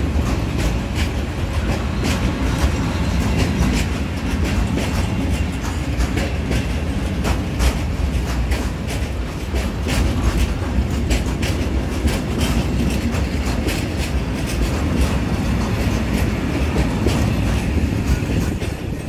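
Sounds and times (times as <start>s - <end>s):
freight train low rumble: 0.0s - 19.0s
wheels clacking over rail joints: 0.0s - 19.0s.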